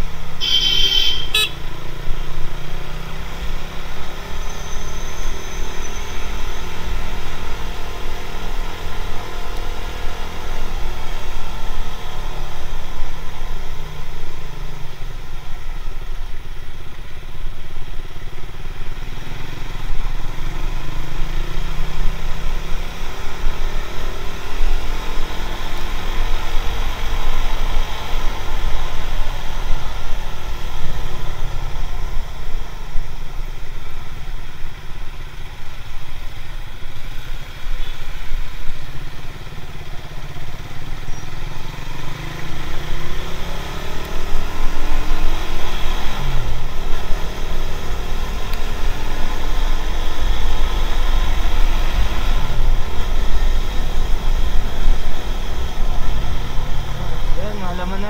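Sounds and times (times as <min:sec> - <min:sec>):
motorcycle engine running: 0:06.3 - 0:58.0.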